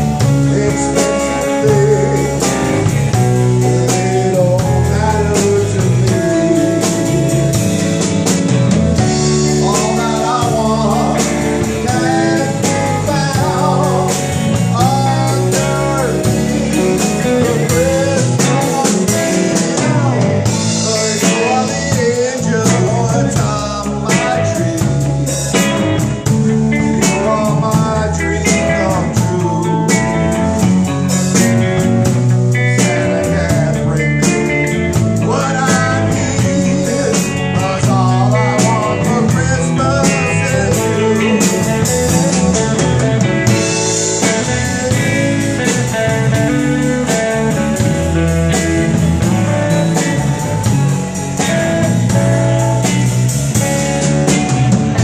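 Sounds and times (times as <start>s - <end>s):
man singing lead vocal: 0.0s - 52.9s
electric guitars: 0.0s - 55.0s
live rock band: 0.0s - 55.0s.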